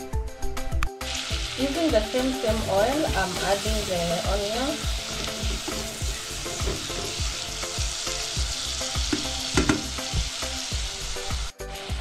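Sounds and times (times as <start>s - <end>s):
onion sizzling in oil: 1.0s - 12.0s.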